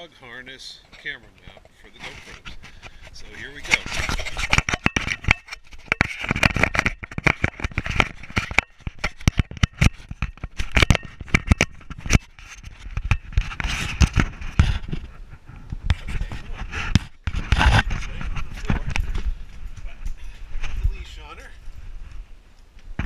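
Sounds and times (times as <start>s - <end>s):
harness rubbing against camera: 0.8s - 22.2s.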